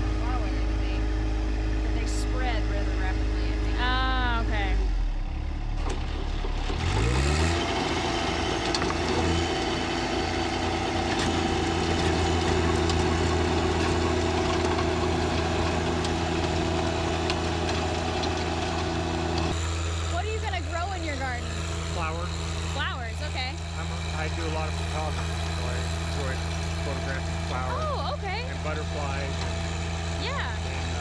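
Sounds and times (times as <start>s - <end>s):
tractor diesel engine under load: 0.0s - 31.0s
rotary tiller in soil: 5.7s - 31.0s.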